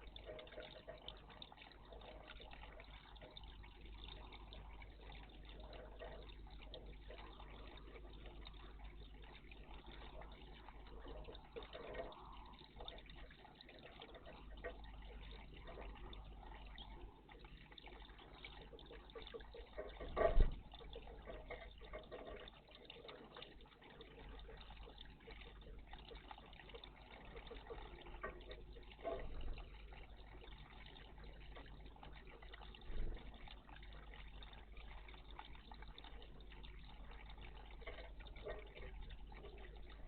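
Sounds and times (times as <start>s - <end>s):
water trickling in bird bath: 0.0s - 40.0s.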